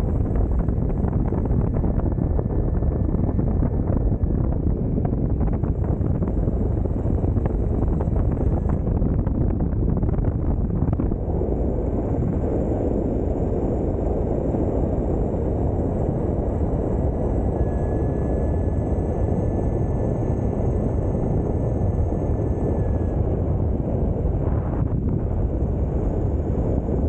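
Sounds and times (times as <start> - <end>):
faint high whine: 0.0 - 27.0
wind buffeting microphone: 0.0 - 27.0.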